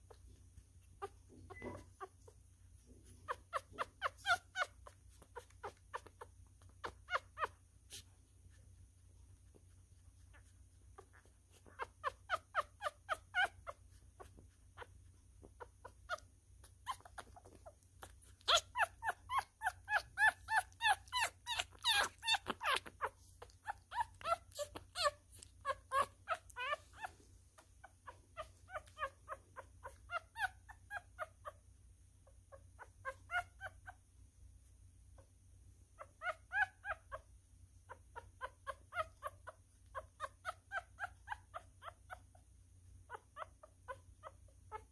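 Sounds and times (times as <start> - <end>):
puppy crying: 0.0 - 8.6, 9.4 - 34.1, 35.9 - 44.9.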